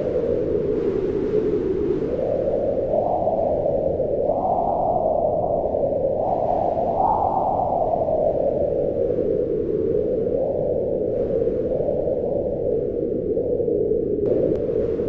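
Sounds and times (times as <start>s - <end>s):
howling wind: 0.0s - 15.0s.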